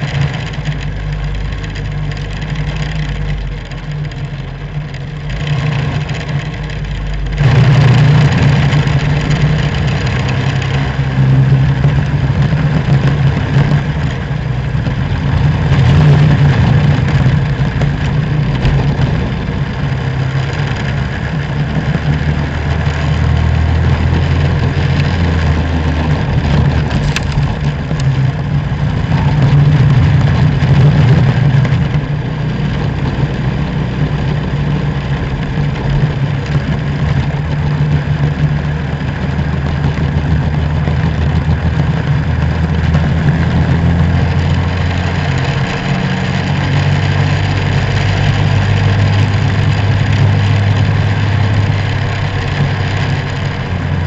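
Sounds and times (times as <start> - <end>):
racing kart engines: 0.0 - 54.0.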